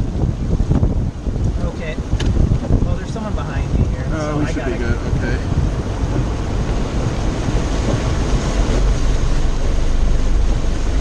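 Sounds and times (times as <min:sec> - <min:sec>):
vehicle cabin rumble: 0:00.0 - 0:11.0.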